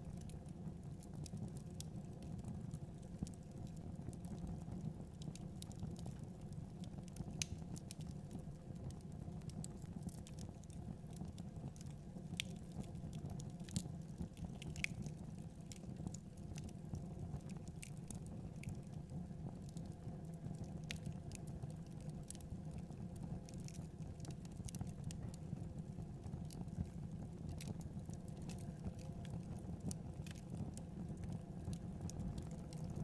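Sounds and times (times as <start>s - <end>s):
wood fire crackling: 0.1s - 33.0s.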